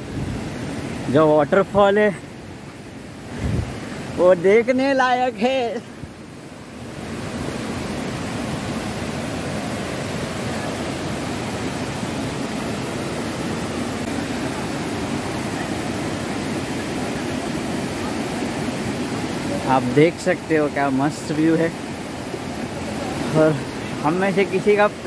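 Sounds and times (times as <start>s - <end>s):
waterfall rushing over rocks: 0.0s - 25.0s.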